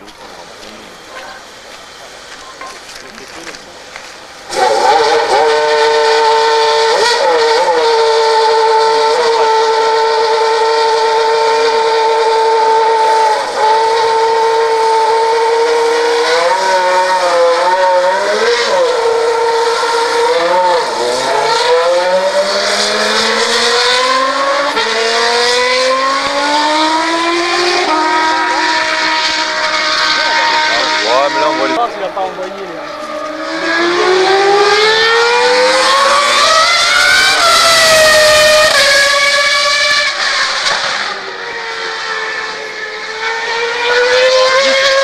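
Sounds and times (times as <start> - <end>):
racing car engine revving: 0.0 - 45.0.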